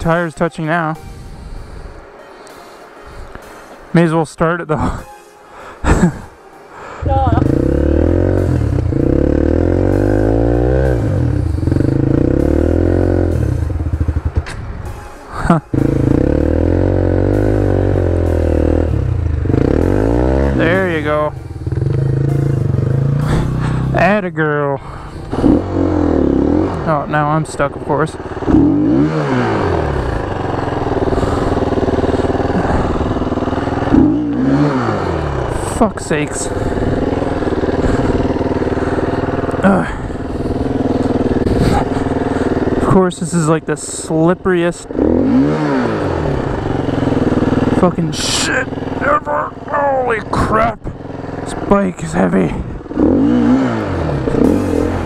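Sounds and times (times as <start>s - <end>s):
dirt bike engine revving: 7.0s - 14.6s, 15.4s - 24.4s, 25.1s - 55.0s.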